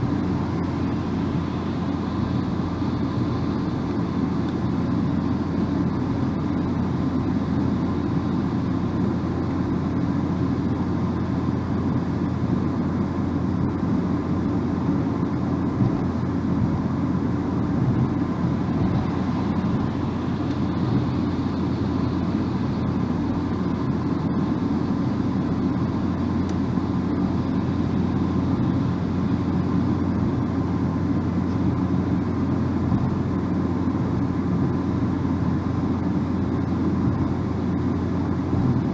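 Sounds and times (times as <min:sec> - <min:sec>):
car driving at road speed: 0:00.0 - 0:38.9.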